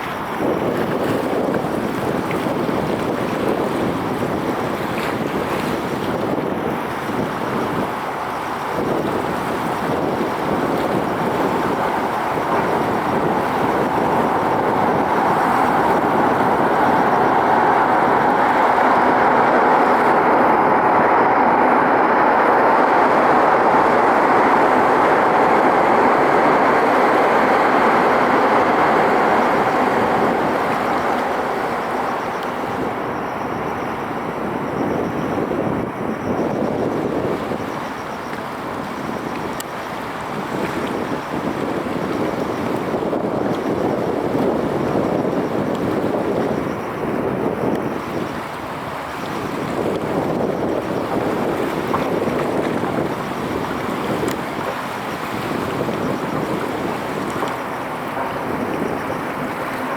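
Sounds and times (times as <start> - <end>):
train rushing rumble: 0.0 - 59.9.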